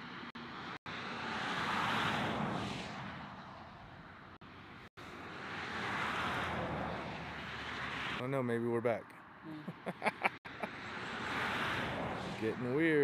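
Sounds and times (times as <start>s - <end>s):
outdoor rushing noise: 0.0s - 8.3s, 10.8s - 13.0s.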